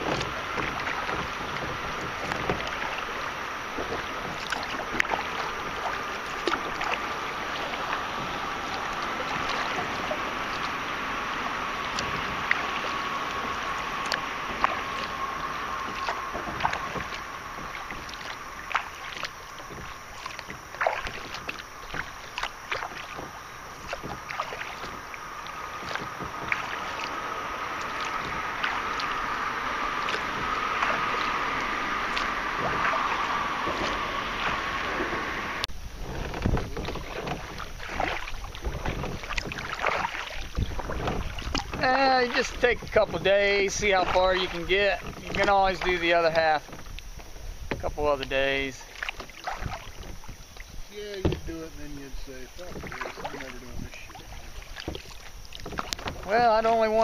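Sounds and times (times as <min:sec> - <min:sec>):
paddle splashes and drips: 0:00.0 - 0:57.0
river water rushing: 0:00.0 - 0:57.0.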